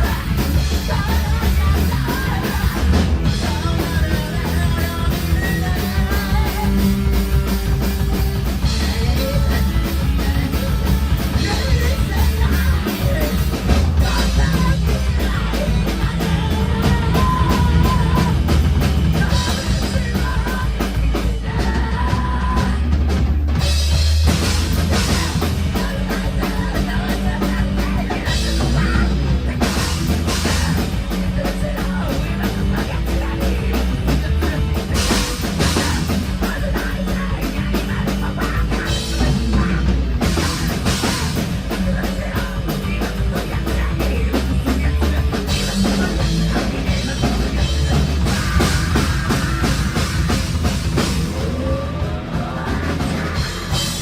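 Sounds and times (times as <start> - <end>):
drum kit rapid beats: 0.0 - 54.0
heavy metal band playing: 0.0 - 54.0.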